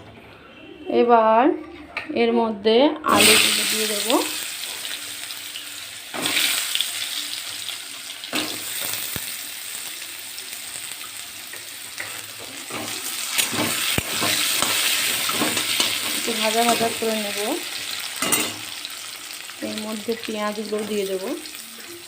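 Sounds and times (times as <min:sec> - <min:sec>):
potatoes sizzling in oil: 0:03.1 - 0:22.0.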